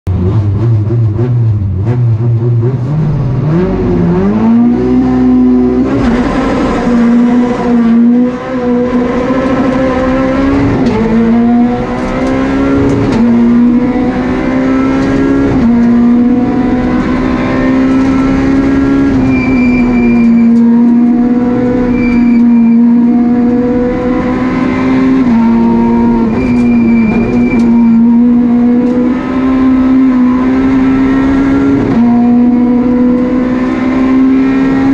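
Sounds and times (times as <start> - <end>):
rally car engine revving: 0.1 - 34.9.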